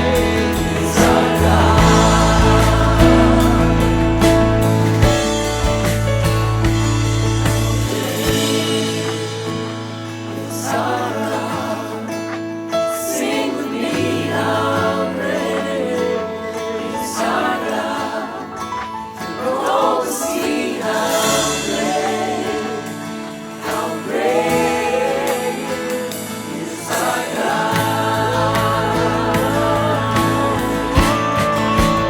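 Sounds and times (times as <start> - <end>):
instrumental accompaniment: 0.0 - 12.7, 15.2 - 32.0
group singing worship song: 0.0 - 32.0.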